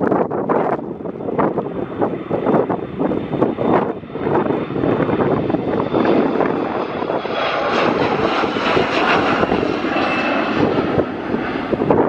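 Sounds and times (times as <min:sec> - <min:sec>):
jet taking off: 0:00.0 - 0:12.0.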